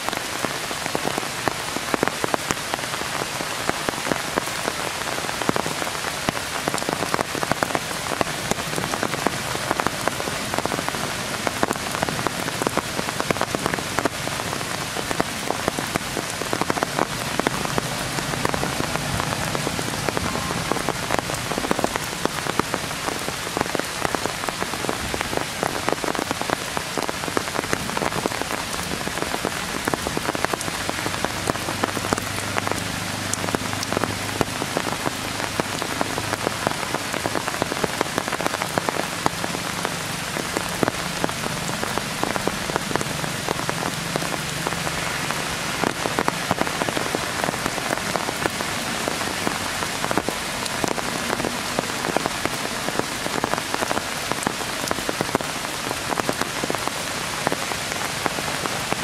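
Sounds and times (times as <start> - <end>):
rain falling through trees: 0.0 - 59.0
raindrops pattering on leaves: 0.0 - 59.0.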